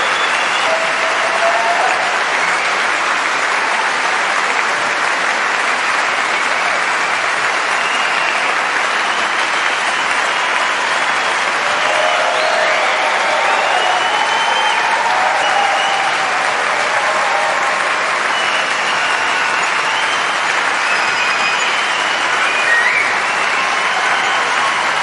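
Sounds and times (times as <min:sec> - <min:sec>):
large audience applauding: 0:00.0 - 0:25.0.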